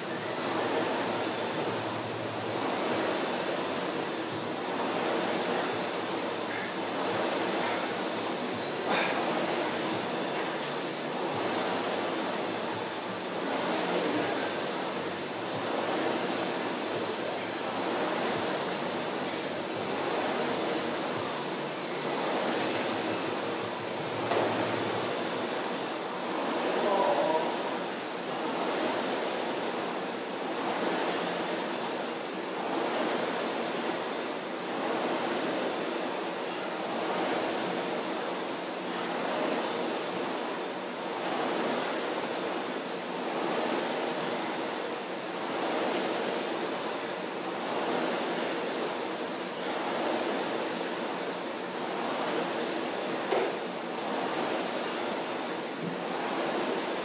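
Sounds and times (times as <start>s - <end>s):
rowing machine flywheel whooshing: 0.0s - 57.0s.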